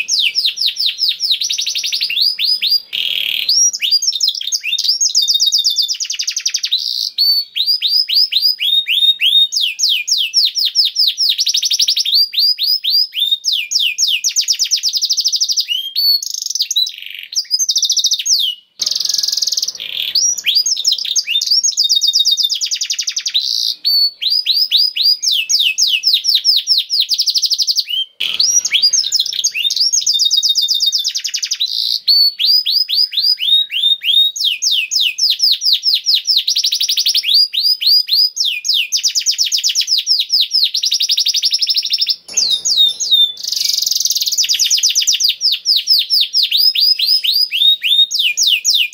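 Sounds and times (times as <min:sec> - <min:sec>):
canary singing fast trills: 0:00.0 - 0:48.9.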